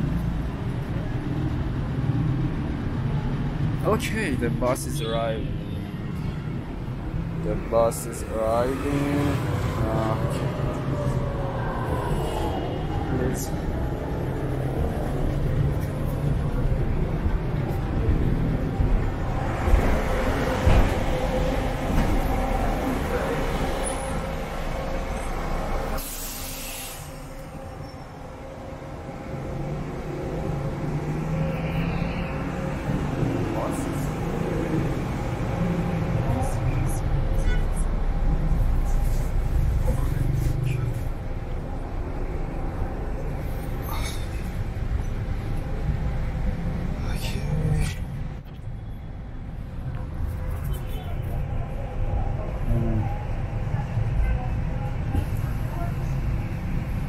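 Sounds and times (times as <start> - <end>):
bus engine rumble and tyre noise: 0.0 - 57.0
street traffic: 0.0 - 57.0.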